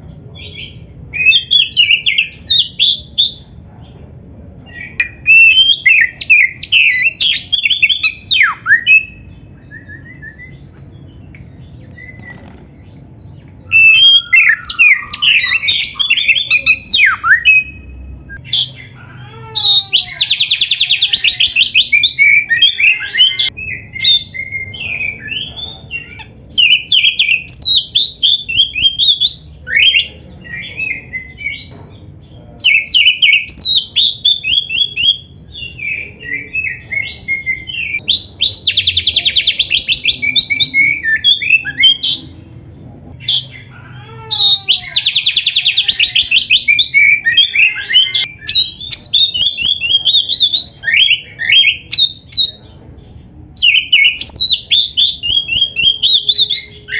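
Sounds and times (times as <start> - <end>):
bird singing varied song: 0.0 - 56.9.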